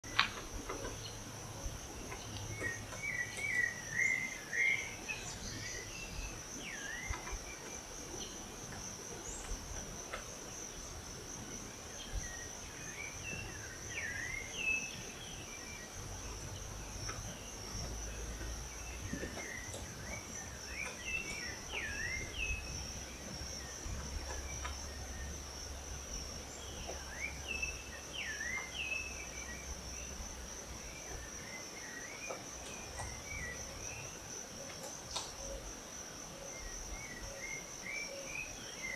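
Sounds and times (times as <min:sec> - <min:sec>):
birds chirping: 0:00.0 - 0:38.9
insects droning: 0:00.0 - 0:38.9.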